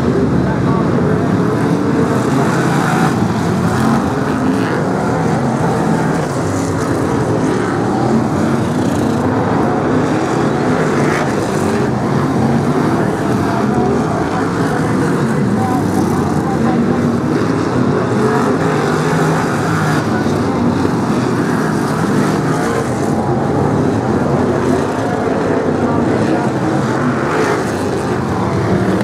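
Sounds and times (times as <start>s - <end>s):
racing car engines: 0.0s - 29.0s.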